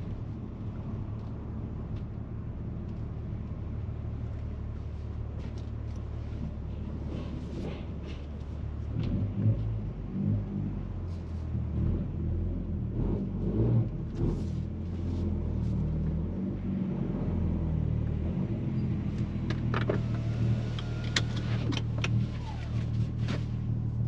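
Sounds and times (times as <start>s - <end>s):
car engine driving: 0.0s - 24.0s.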